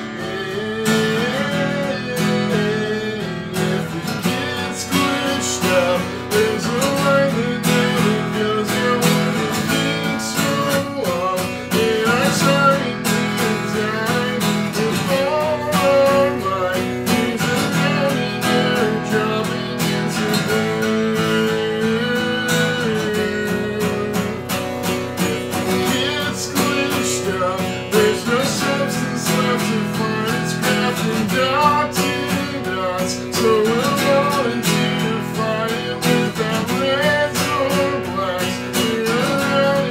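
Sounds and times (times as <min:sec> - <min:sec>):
man singing: 0:00.0 - 0:39.9
strummed acoustic guitar: 0:00.0 - 0:39.9.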